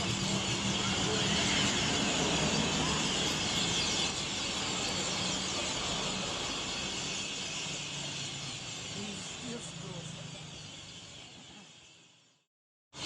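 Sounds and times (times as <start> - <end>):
flock of birds chattering: 0.0 - 12.1.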